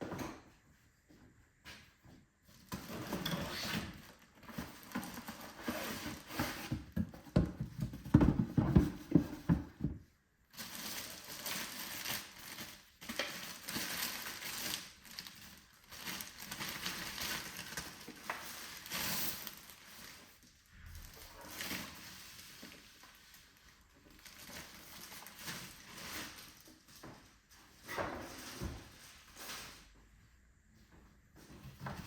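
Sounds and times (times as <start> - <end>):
packaging rustling and crinkling: 2.5 - 9.6, 10.5 - 29.8.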